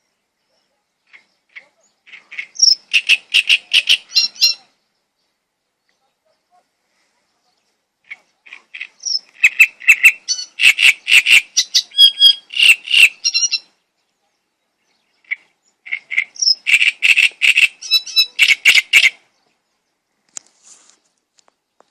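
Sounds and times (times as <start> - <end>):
songbird singing trills: 0.0 - 6.5, 7.4 - 16.8, 17.4 - 20.2.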